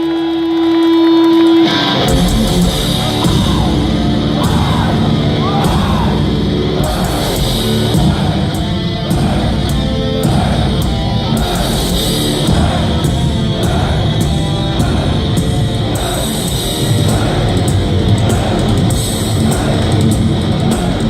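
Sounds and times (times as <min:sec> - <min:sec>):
distorted electric guitars: 0:00.0 - 0:21.0
drums: 0:00.6 - 0:21.0.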